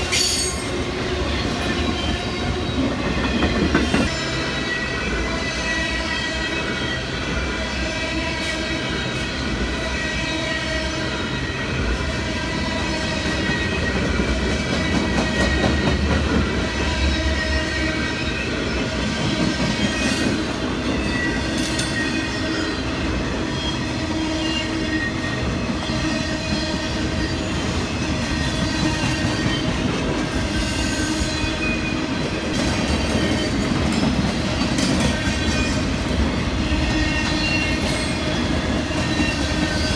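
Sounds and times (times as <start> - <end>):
freight train rumble: 0.0 - 39.9
train wheels squealing: 0.0 - 39.9.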